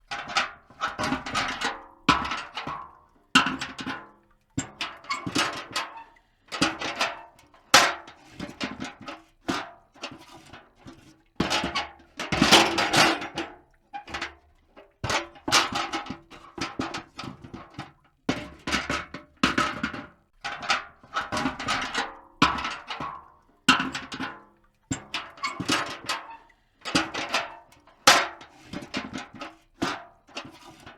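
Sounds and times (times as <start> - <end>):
metal bucket clanking: 0.1 - 30.9.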